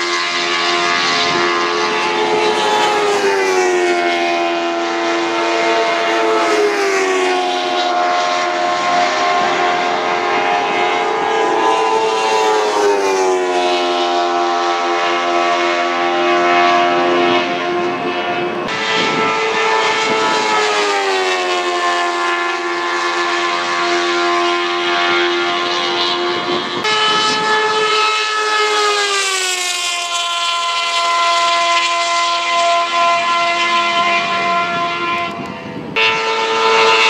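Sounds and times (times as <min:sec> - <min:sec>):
race cars passing: 0:00.0 - 0:37.0.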